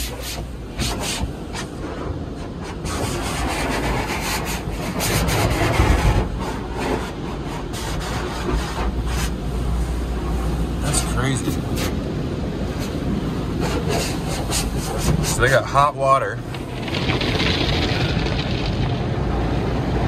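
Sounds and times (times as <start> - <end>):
steady low rumble: 0.0 - 20.0
water jets hissing on car: 0.0 - 20.0.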